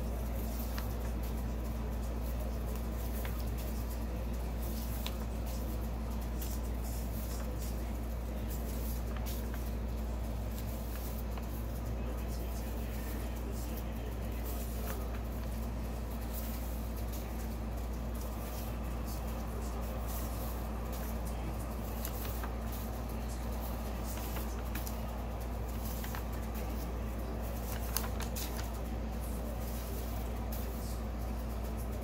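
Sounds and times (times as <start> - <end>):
low background hum: 0.0 - 32.0
paper rustling: 0.2 - 32.0.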